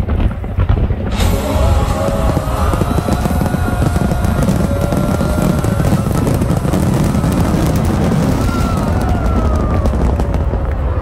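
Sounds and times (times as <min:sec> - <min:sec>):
fireworks crackling and popping: 0:00.0 - 0:11.0
rumble of fireworks booms: 0:00.0 - 0:11.0.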